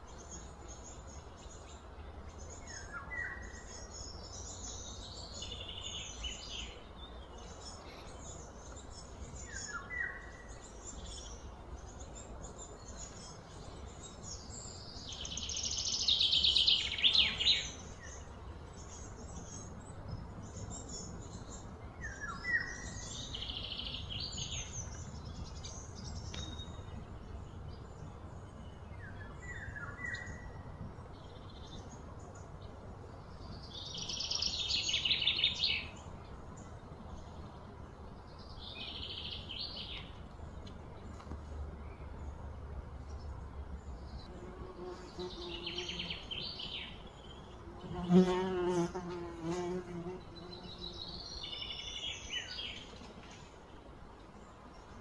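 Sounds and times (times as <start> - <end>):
birds chirping: 0.0 - 55.0
steady low background noise: 0.0 - 55.0.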